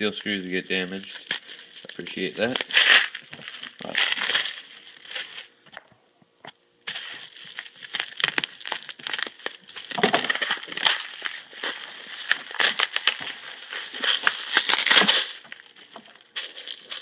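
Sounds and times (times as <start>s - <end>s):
bubble wrap crinkling: 0.0s - 5.8s, 6.8s - 17.0s.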